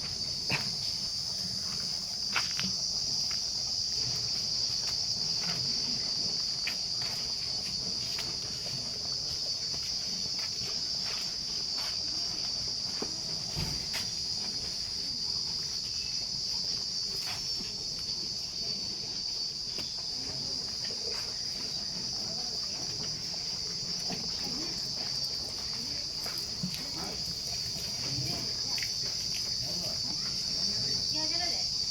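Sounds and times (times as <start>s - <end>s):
crickets chirping: 0.0s - 31.9s.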